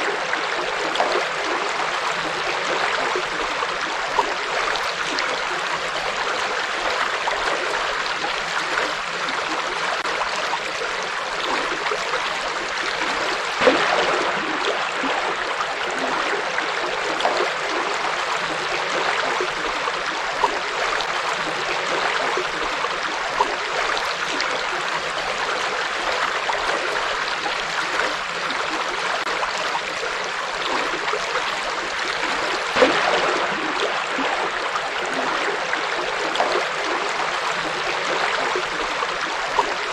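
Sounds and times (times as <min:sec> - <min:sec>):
water splashes: 0:00.0 - 0:39.9.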